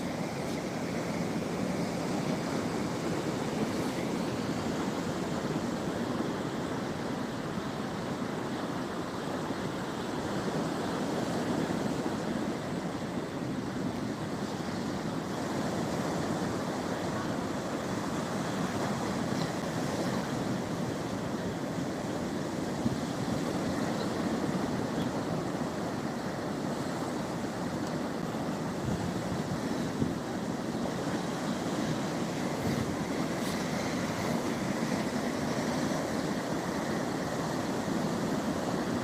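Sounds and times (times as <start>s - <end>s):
surf washing onto shore: 0.0s - 39.0s.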